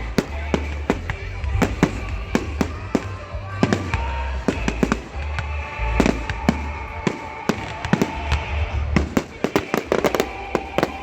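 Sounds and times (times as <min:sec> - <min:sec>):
fireworks bangs and cracks: 0:00.0 - 0:11.0
loud music with deep bass: 0:00.0 - 0:11.0.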